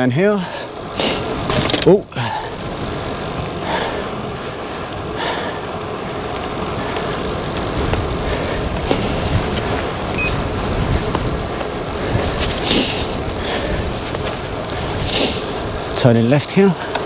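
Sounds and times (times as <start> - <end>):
wind rushing on microphone: 0.0 - 17.0.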